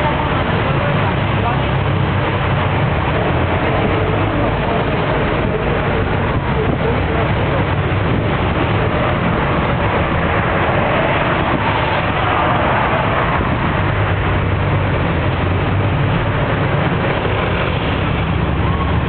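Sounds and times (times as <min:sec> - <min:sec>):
diesel engine running: 0:00.0 - 0:19.0
road and wind noise: 0:00.0 - 0:19.0.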